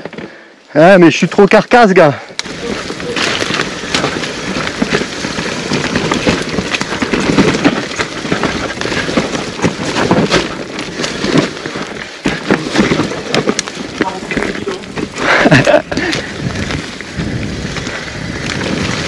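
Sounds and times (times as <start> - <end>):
mountain bike clattering on trail: 0.0 - 19.0.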